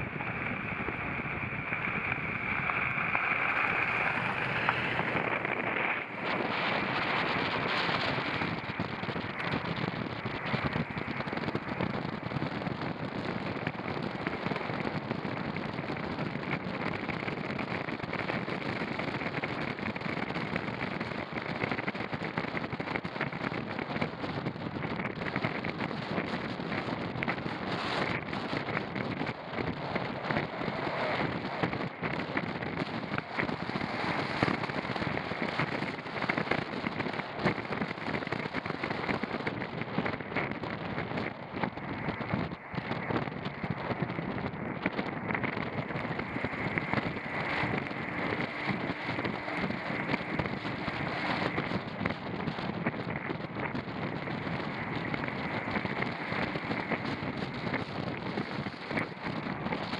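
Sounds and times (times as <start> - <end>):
off-road vehicle driving: 0.0 - 23.6, 24.2 - 59.9
dense crackling: 0.0 - 59.9.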